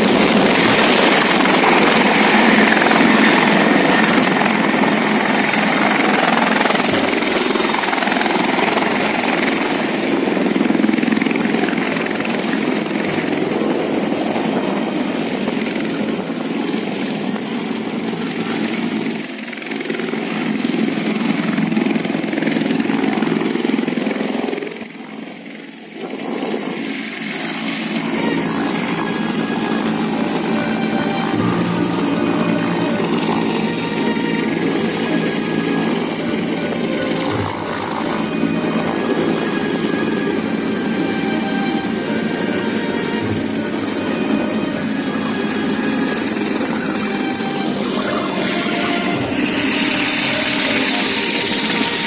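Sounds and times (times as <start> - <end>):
helicopter rotor and turbine: 0.0 - 52.0.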